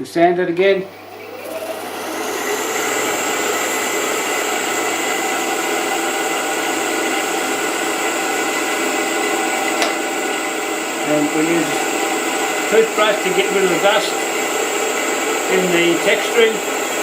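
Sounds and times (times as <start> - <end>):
wood lathe sanding hiss: 0.0 - 17.0
high motor whine: 0.5 - 17.0.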